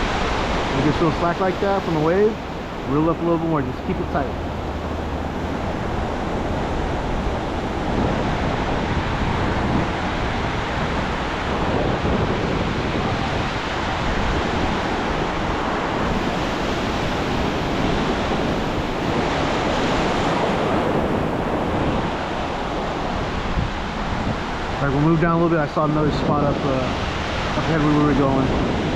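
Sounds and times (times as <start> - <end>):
ocean waves breaking: 0.0 - 28.9
wind buffeting microphone: 0.0 - 28.9.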